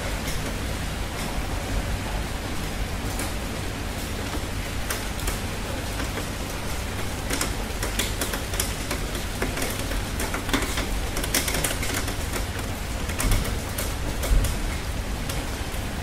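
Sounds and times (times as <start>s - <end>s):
raindrops tapping: 0.0s - 16.0s.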